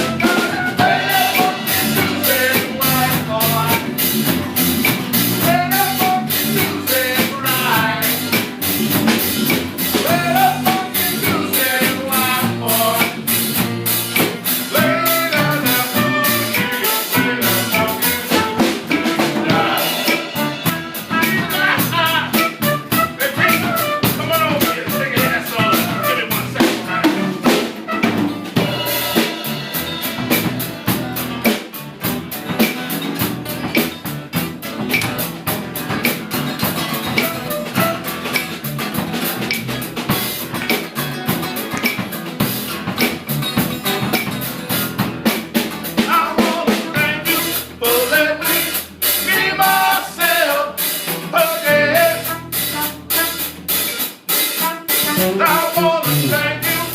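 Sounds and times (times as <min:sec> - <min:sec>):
drum kit beat: 0:00.0 - 0:56.9
live band playing: 0:00.0 - 0:56.9.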